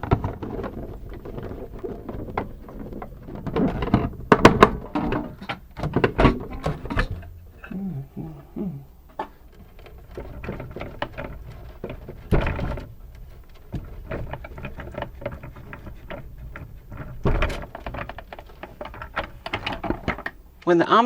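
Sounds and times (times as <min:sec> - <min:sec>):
plastic scrapes: 0:00.0 - 0:20.6.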